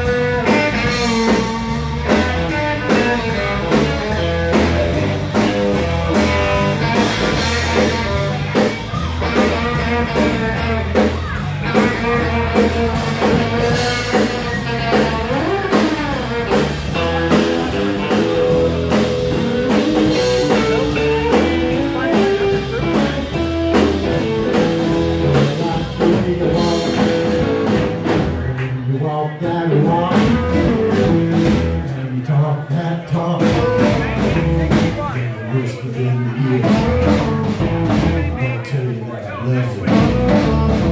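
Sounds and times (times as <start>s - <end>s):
electric guitar lead: 0.0s - 28.9s, 29.6s - 32.1s, 36.2s - 38.4s
bass and drums: 0.0s - 40.9s.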